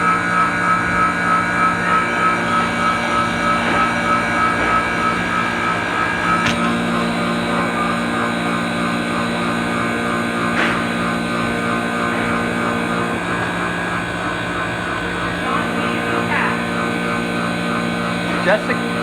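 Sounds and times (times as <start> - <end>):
ice machine humming: 0.0 - 19.0.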